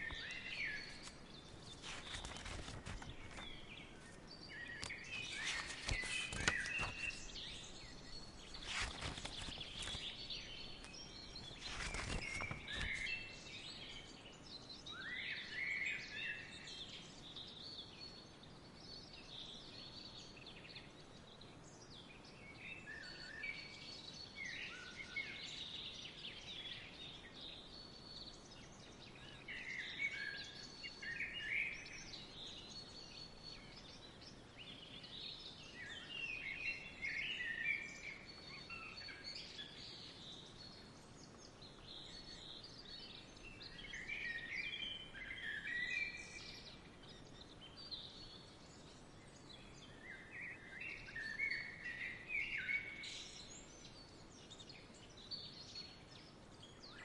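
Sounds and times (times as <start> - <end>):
faint outdoor hiss: 0.0 - 57.0
songbirds chirping: 0.0 - 57.0.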